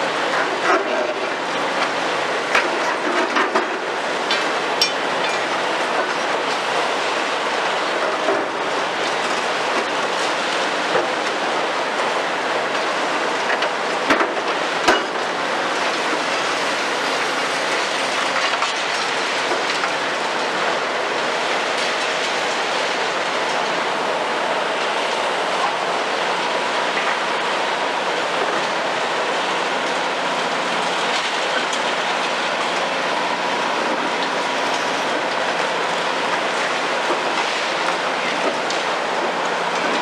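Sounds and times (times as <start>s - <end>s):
excavator machine noise: 0.0s - 40.0s.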